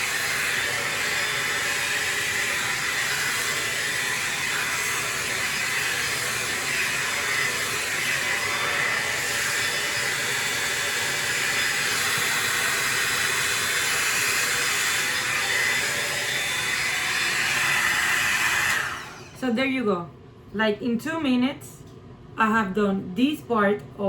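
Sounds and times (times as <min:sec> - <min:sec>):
hair dryer blowing air: 0:00.0 - 0:19.6.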